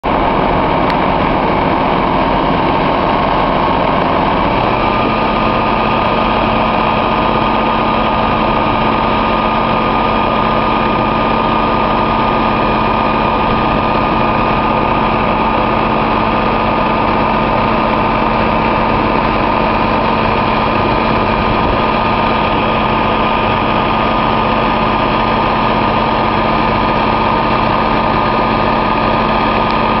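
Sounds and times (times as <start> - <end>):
engine-driven pump running: 0.0 - 30.0.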